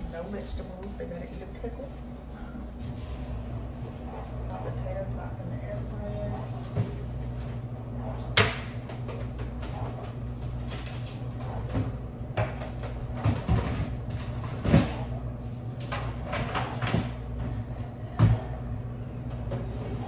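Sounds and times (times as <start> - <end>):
kitchen appliance humming: 0.0 - 20.0.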